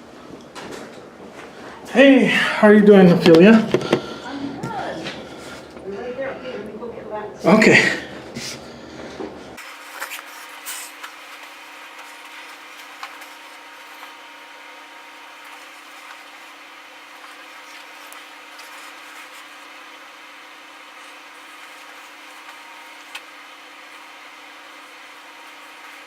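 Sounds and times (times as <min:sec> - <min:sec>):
faint constant hum: 0:00.0 - 0:26.0.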